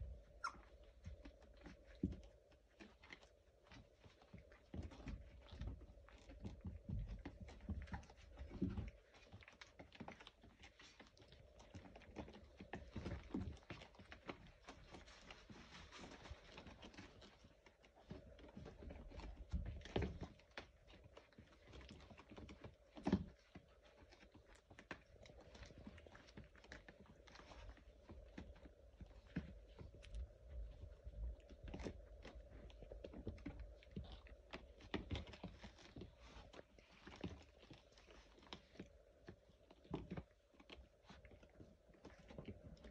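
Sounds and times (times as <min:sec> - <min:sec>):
faint steady hum: 0:00.0 - 0:42.9
puppy paws scratching on a pad: 0:00.0 - 0:42.9.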